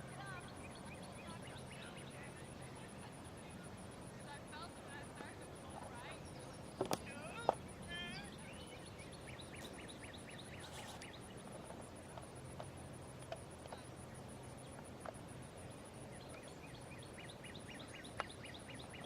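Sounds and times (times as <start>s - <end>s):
bird chirping: 0.0s - 4.8s, 5.5s - 12.0s, 13.7s - 19.0s.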